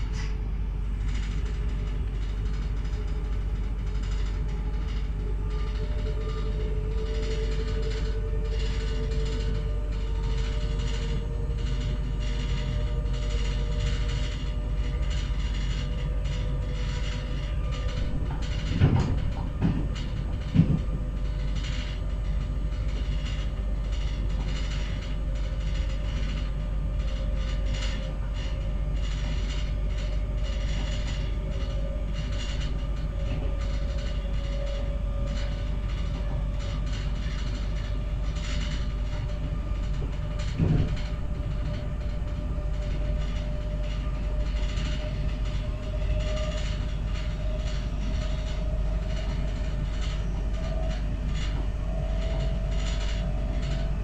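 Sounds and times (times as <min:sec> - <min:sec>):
train running rumble and whine: 0:00.0 - 0:54.0.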